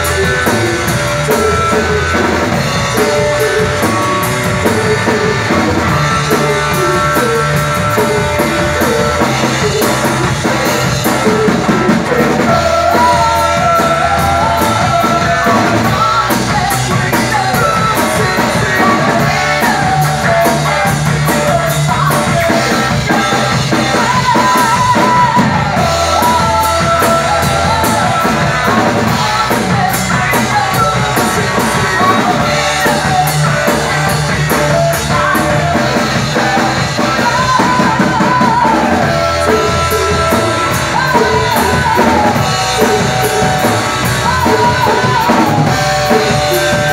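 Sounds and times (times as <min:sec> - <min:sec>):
drum kit with cymbals: 0:00.0 - 0:46.9
electric guitar: 0:00.0 - 0:46.9
person singing: 0:00.0 - 0:46.9.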